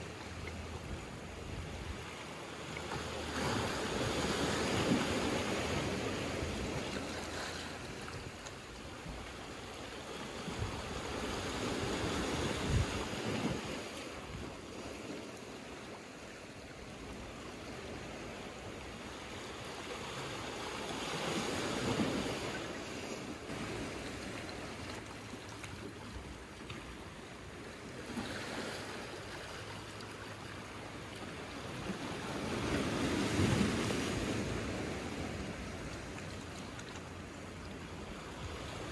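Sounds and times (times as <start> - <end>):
waves washing over rocks and pebbles: 0.0 - 38.9.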